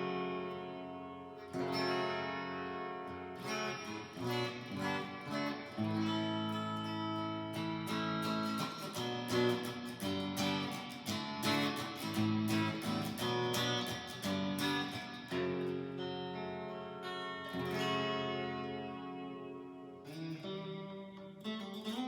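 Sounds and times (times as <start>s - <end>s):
electric guitar strummed chords: 0.0s - 22.0s.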